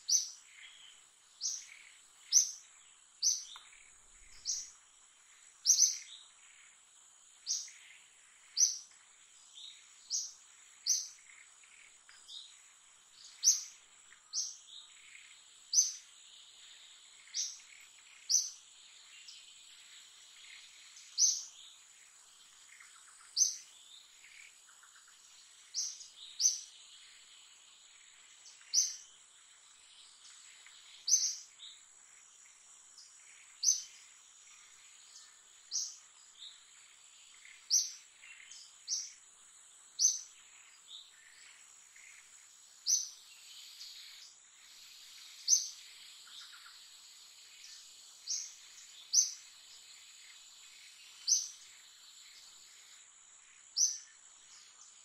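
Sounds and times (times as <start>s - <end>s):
bird chirping: 0.0s - 55.0s
insect drone: 0.0s - 55.0s.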